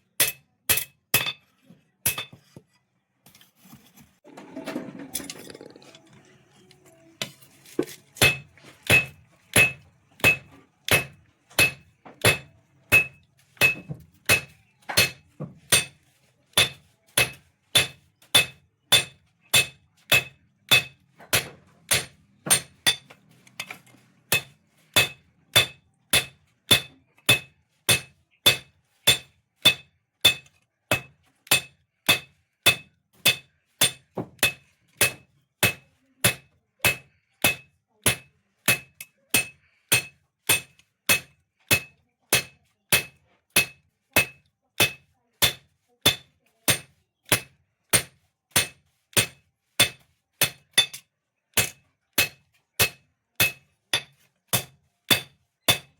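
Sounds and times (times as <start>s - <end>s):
hammer striking blade on anvil: 0.2s - 1.4s, 2.0s - 2.4s, 8.2s - 16.0s, 16.6s - 51.0s, 51.6s - 55.9s.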